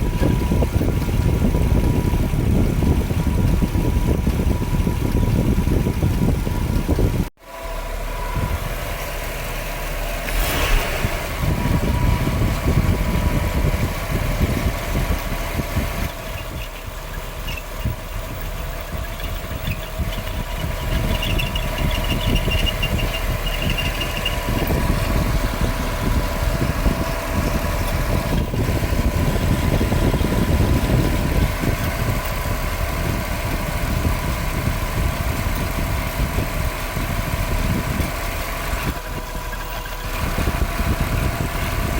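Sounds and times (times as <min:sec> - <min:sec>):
car engine idling: 0:00.0 - 0:41.9
engine whine: 0:00.0 - 0:41.9.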